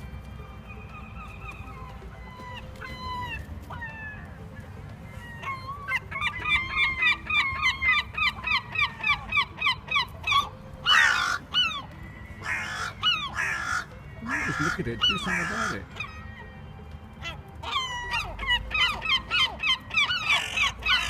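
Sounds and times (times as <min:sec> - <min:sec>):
seagulls calling: 0:00.0 - 0:21.0.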